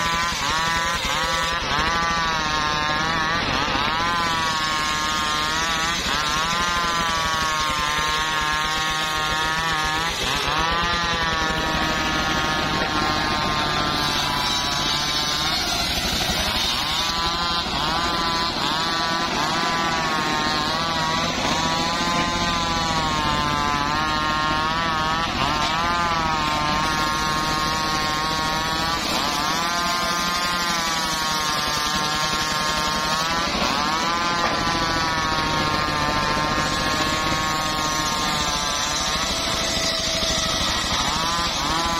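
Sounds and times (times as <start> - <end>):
circular saw ripping wood: 0.0 - 41.9.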